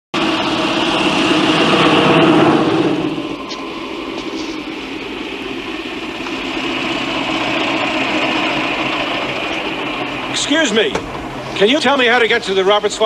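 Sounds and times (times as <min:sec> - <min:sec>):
car engine running: 0:00.2 - 0:13.0.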